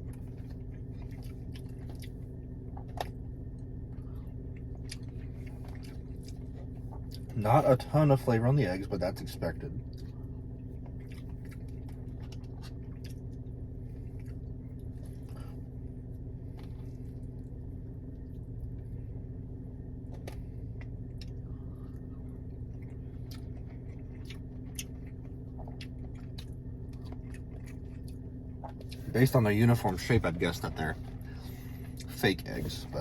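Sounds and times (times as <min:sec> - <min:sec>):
chewing soft egg: 0:00.0 - 0:07.4, 0:09.8 - 0:30.1
steady low hum: 0:00.0 - 0:33.0.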